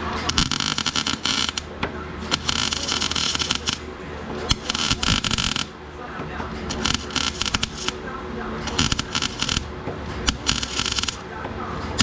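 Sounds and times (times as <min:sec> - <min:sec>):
arc welder crackling and sputtering: 0:00.0 - 0:05.8, 0:06.6 - 0:11.3.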